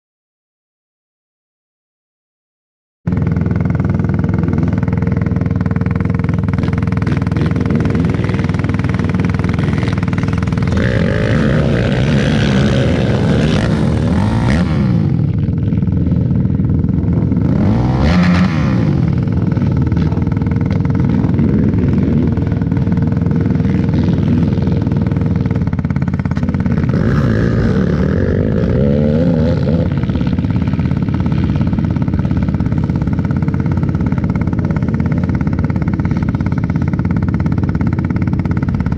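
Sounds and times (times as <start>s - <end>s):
quad engines revving: 3.1s - 38.9s.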